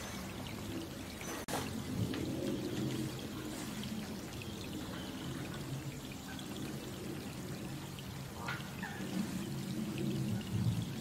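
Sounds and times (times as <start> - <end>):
rain falling on water: 0.0 - 11.0.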